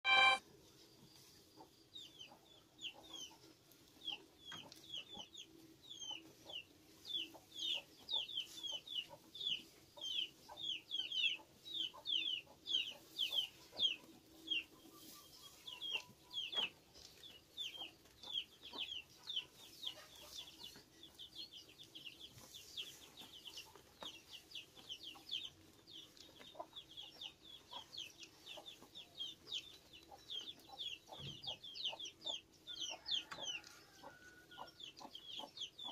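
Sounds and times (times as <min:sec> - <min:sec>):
chicks peeping: 0:00.0 - 0:00.4, 0:01.1 - 0:35.9.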